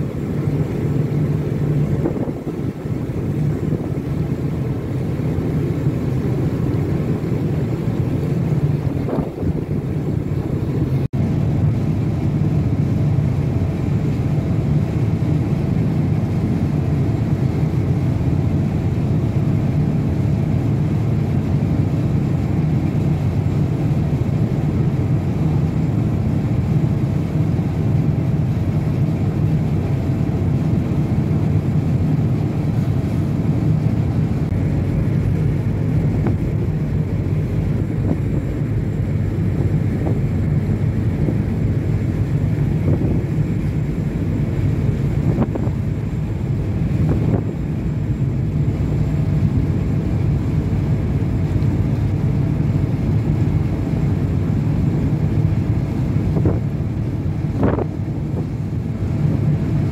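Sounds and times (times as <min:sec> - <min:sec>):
ship engine droning: 0:00.0 - 0:59.9
wind: 0:00.0 - 0:59.9.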